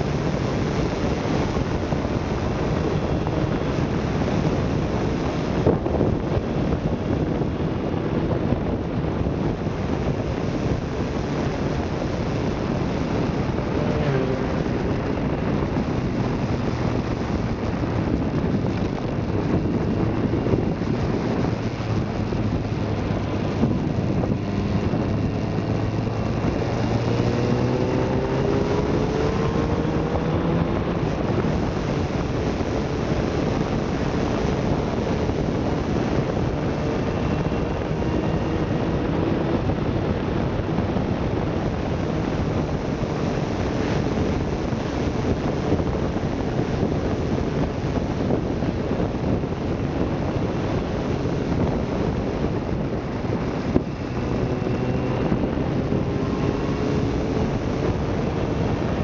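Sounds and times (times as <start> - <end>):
motorcycle engine: 0.0 - 59.0
wind on microphone: 0.0 - 59.0.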